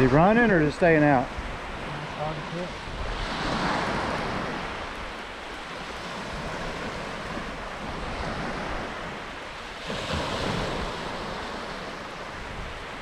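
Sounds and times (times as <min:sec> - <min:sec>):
ocean surf washing onto beach: 0:00.0 - 0:13.0
wave breaking: 0:00.0 - 0:13.0
wind buffeting microphone: 0:00.0 - 0:13.0.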